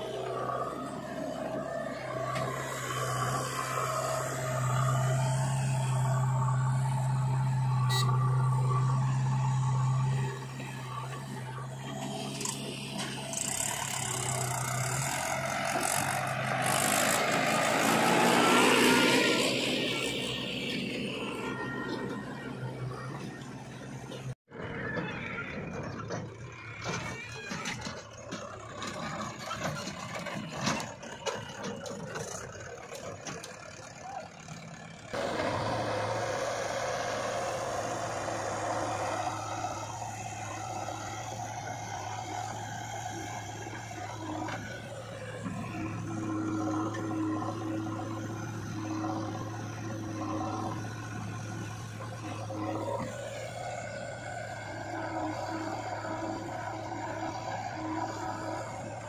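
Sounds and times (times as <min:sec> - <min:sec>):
diesel engines running steadily: 0:00.0 - 0:59.0
tractor diesel engine: 0:00.0 - 0:59.0.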